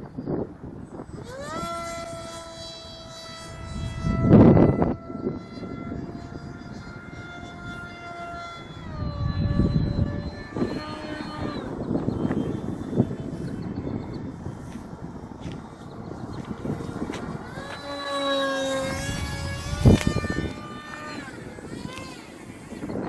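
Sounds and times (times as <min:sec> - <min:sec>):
propeller motor whining: 0:00.0 - 0:23.0
wind buffeting microphone: 0:00.0 - 0:23.0.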